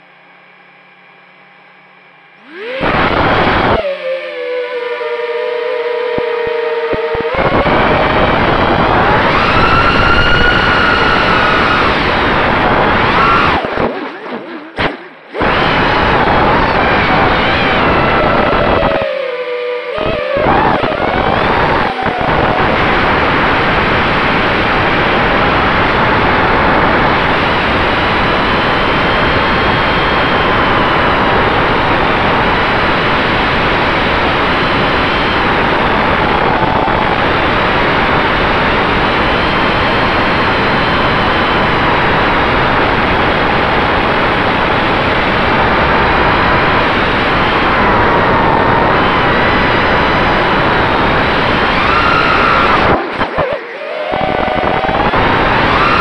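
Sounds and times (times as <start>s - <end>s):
drone motors whining: 2.2s - 56.0s
dense rushing noise: 7.3s - 13.9s, 14.8s - 19.1s, 20.1s - 56.0s.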